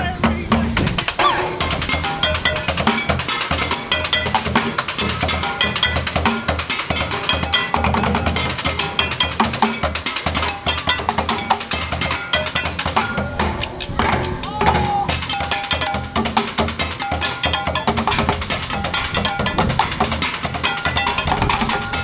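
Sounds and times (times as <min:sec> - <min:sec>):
steady drum beat: 0:00.0 - 0:22.0.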